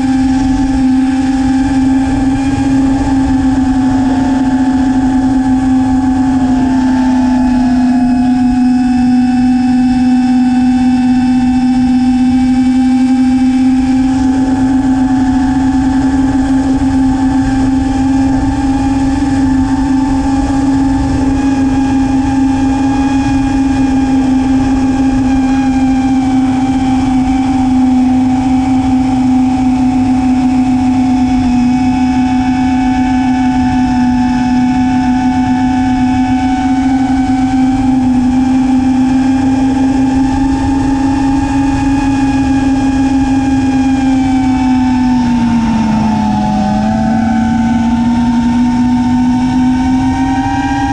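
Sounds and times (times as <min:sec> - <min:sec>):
drone propellers whining: 0:00.0 - 0:50.9
wind buffeting rumble: 0:00.0 - 0:50.9.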